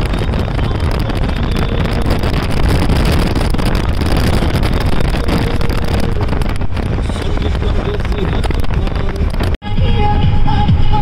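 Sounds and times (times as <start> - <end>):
car road and wind noise: 0.0 - 11.0
wind buffeting microphone: 0.0 - 11.0.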